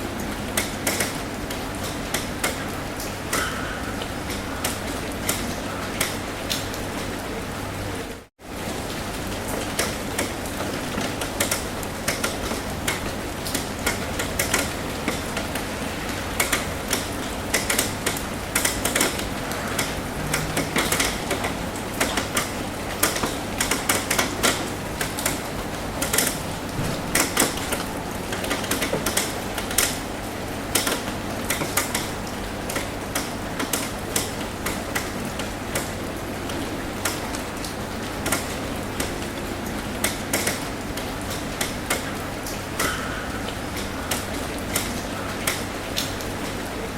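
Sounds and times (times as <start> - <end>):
rain drumming on metal roof: 0.0 - 46.9.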